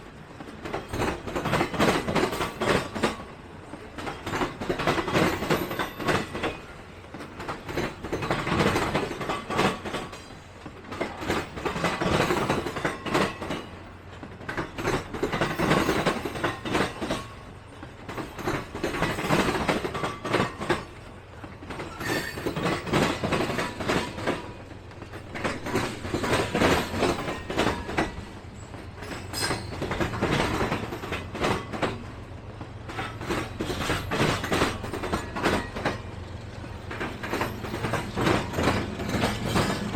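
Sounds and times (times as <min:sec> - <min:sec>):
train wheels clacking over rail joints: 0:00.3 - 0:39.9.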